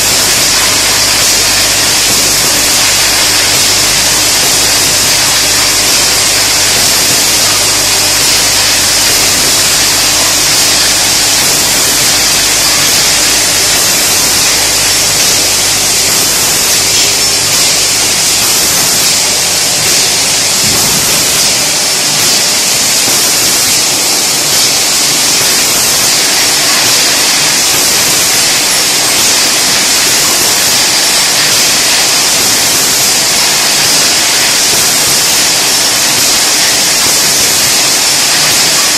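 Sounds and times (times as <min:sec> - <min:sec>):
low machine hum: 0:00.0 - 0:33.0
filling machine hissing: 0:00.0 - 0:38.9.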